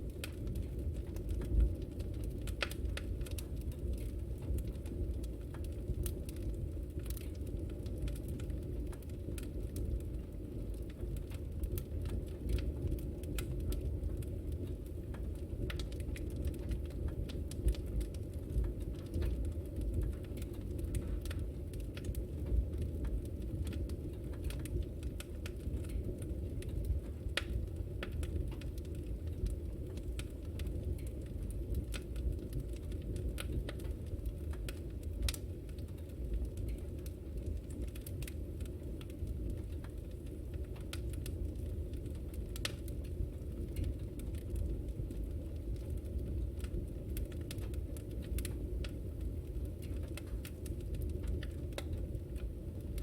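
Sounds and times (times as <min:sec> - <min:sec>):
fire crackles and pops: 0:00.0 - 0:53.0
low rumble of flame: 0:00.0 - 0:53.0.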